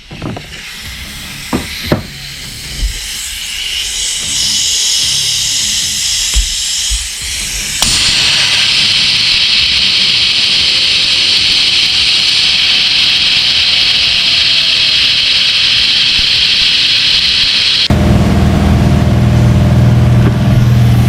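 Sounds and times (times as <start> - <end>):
compressed air hissing: 0.0 - 17.9.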